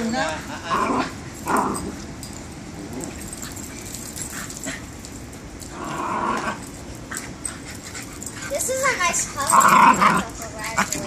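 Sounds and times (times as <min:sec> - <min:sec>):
puppies playing and scuffling: 0:00.0 - 0:11.0.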